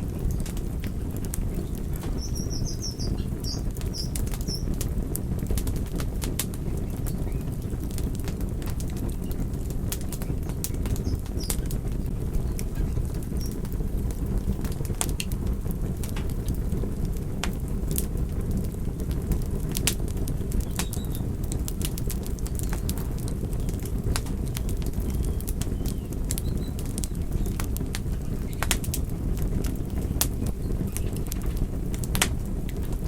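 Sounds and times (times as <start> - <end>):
burning wood crackling and popping: 0.0 - 33.0
rush of flames: 0.0 - 33.0.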